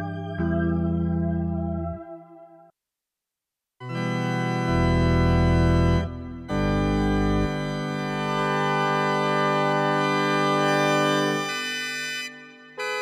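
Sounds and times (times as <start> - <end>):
organ chords: 0.0 - 2.7, 3.8 - 13.0.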